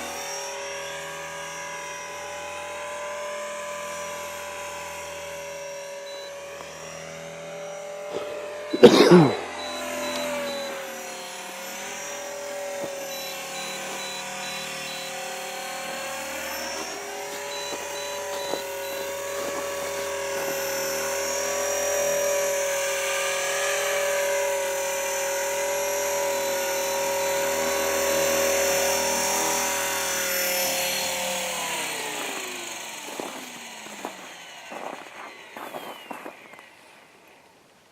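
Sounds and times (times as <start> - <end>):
rc helicopter motor whine: 0.0 - 37.9.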